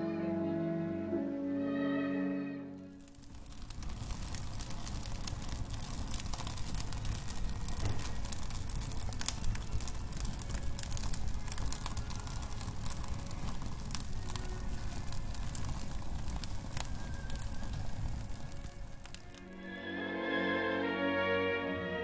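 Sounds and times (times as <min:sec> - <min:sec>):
vegetation fire crackling: 0:02.7 - 0:20.3.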